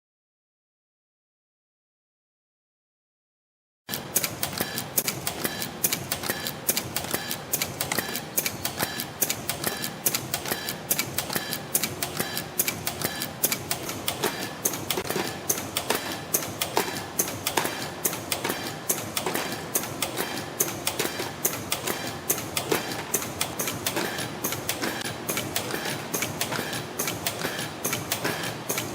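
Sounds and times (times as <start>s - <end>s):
spring machine clattering: 4.5s - 28.9s.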